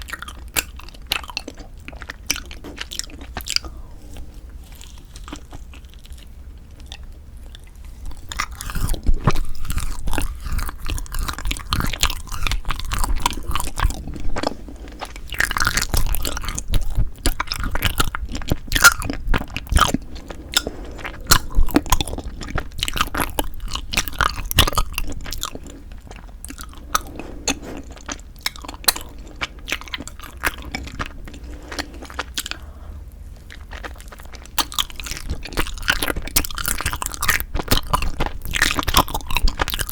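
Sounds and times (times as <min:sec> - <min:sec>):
chewing crunchy rice cake: 0:00.0 - 0:39.9.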